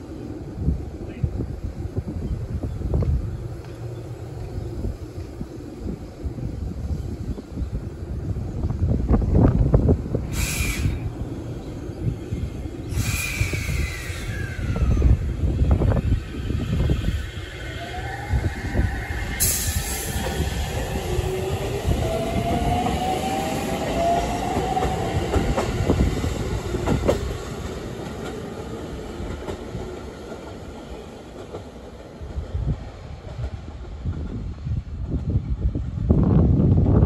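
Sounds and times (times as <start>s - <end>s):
electric train inverter whine: 0.0s - 30.4s
wheels rumbling on rail: 0.0s - 37.0s
rail clicks: 2.8s - 5.4s, 9.1s - 37.0s.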